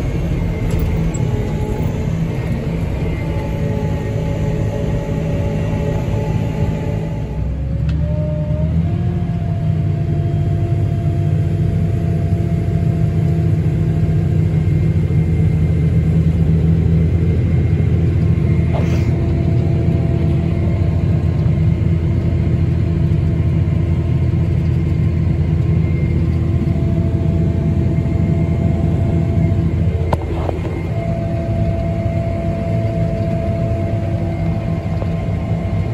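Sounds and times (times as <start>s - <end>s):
auger whine: 0.0s - 35.9s
tractor engine running: 0.0s - 35.9s.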